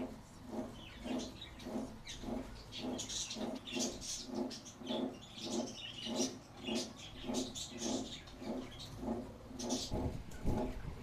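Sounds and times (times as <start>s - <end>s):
low regular pulsing: 0.0s - 11.0s
budgerigars chirping: 0.8s - 10.1s.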